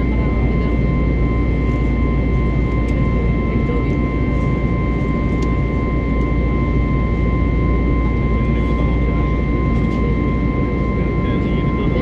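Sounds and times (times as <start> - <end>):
jet engines and airflow rumble: 0.0 - 12.0
steady high whine: 0.0 - 12.0.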